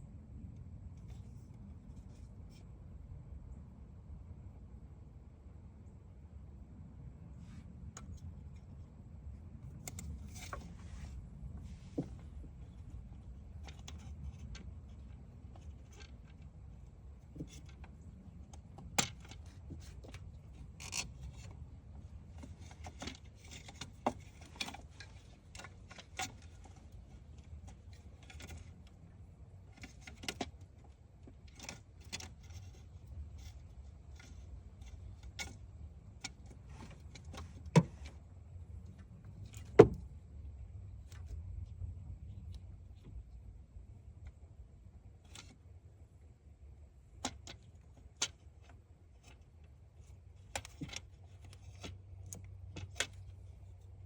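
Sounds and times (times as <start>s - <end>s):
low steady rumble: 0.0s - 54.0s.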